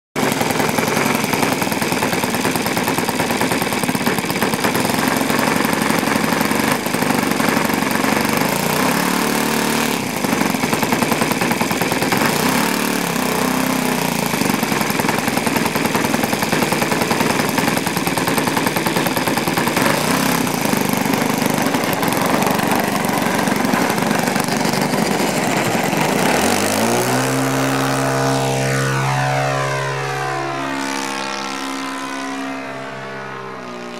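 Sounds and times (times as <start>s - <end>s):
model aeroplane engine running: 0.2s - 33.9s.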